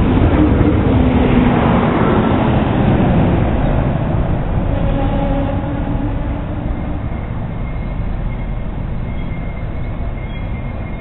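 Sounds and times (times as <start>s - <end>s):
diesel railcar engine rumbling: 0.0s - 11.0s.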